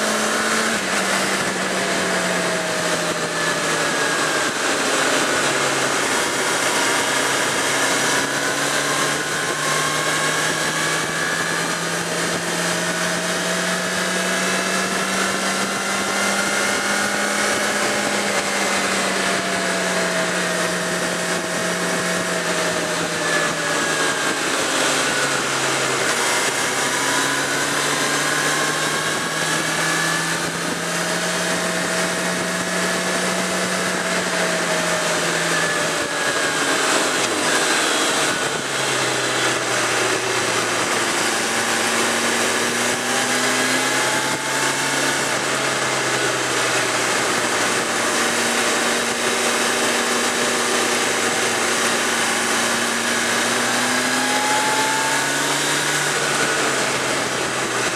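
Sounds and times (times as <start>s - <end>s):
motorcycle engine cruising: 0.0s - 57.9s
wind noise rush: 0.0s - 57.9s.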